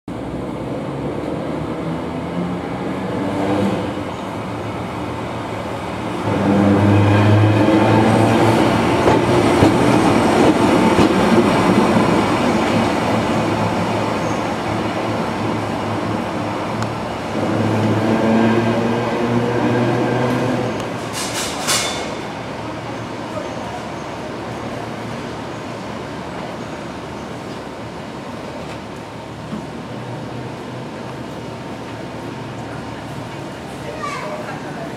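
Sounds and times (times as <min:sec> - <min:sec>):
electric locomotive hum: 0:00.1 - 0:34.9.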